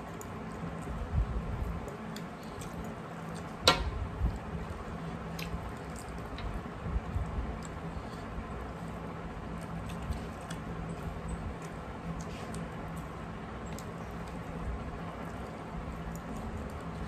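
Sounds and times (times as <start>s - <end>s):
chewing: 0.0s - 3.6s, 4.3s - 17.0s
fingers squishing rice and curry: 0.0s - 17.0s.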